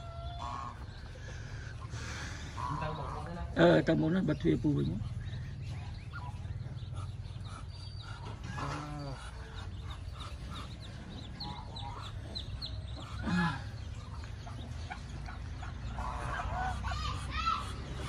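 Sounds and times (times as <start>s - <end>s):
adult fowl low calls: 0.0s - 3.8s, 5.8s - 18.0s
chicks peeping: 0.0s - 18.0s.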